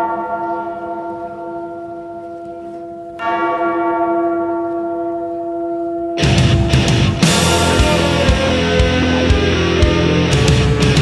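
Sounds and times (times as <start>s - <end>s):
large bell tolling: 0.0s - 11.0s.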